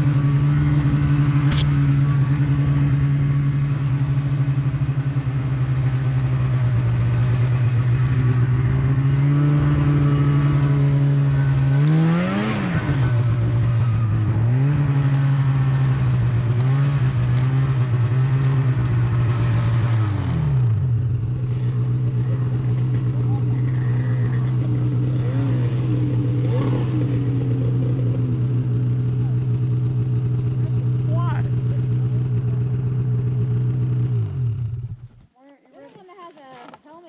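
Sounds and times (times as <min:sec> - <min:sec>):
snowmobile engine revving: 0:00.0 - 0:35.2.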